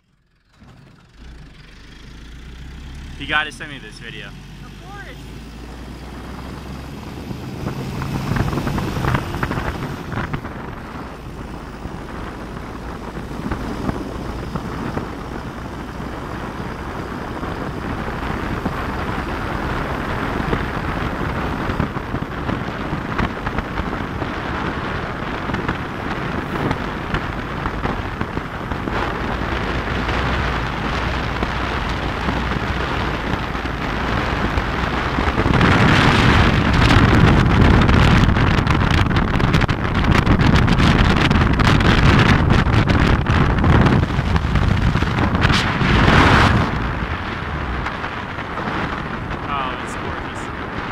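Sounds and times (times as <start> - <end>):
truck engine and tyre noise: 0.0 - 50.9
wind rushing over microphone: 1.4 - 50.9.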